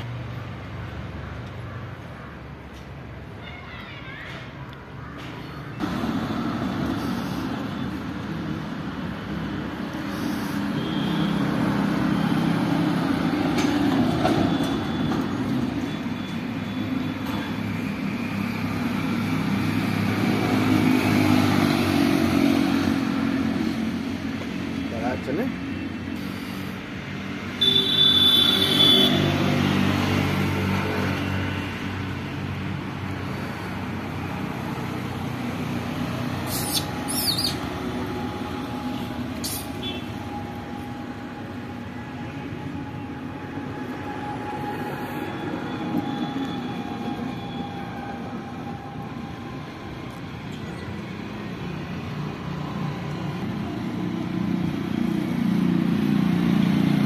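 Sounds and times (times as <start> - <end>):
passing motor vehicles rumble: 4.4 - 57.0.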